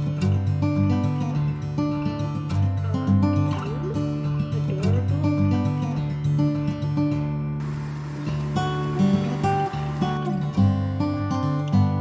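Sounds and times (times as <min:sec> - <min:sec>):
plucked acoustic guitar: 0:00.0 - 0:12.0.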